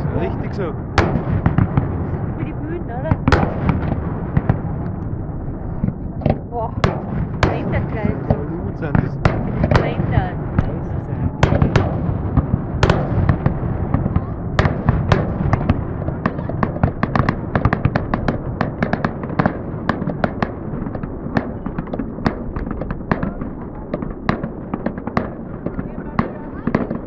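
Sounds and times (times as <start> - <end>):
fireworks bangs and crackling: 0.0 - 27.0
steady low rumble: 0.0 - 27.0.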